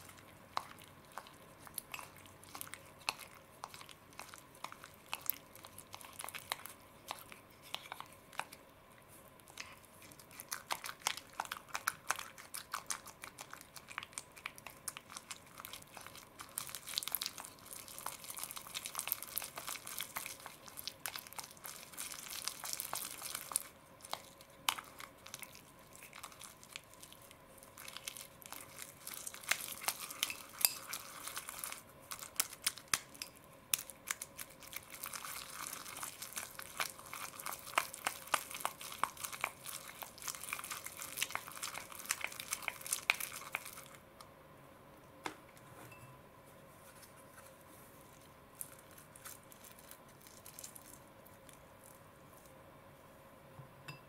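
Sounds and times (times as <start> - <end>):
chopsticks squishing slime: 0.0 - 44.1, 46.7 - 52.6.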